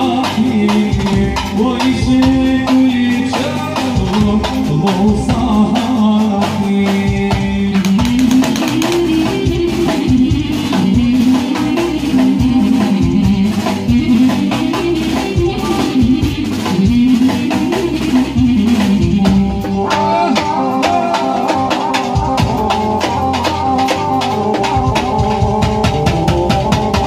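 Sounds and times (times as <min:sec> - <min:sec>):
drum kit rhythm: 0:00.0 - 0:27.0.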